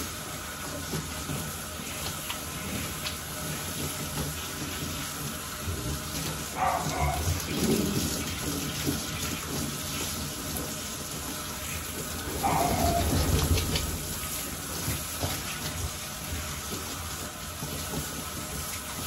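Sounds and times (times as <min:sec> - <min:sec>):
hose sprayer water hissing: 0:00.0 - 0:19.0
water splashing into metal tub: 0:00.0 - 0:19.0.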